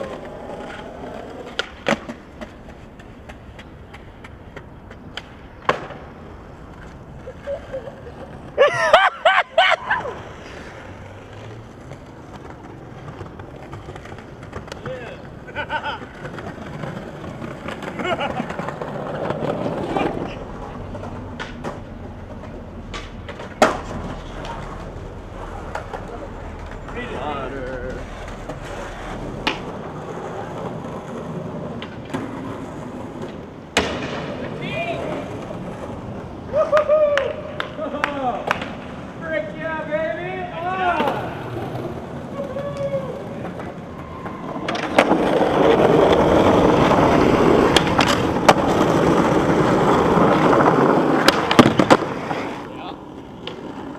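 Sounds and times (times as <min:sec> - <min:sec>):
skateboard clacks: 0:00.0 - 0:09.0, 0:09.8 - 0:53.9
skateboard wheels rolling on concrete: 0:00.0 - 0:53.9.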